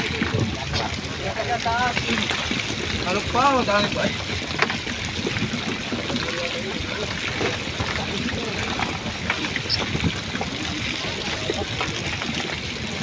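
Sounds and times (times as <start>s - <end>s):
men's voices murmuring: 0.0s - 13.0s
water trickling and splashing: 0.0s - 13.0s.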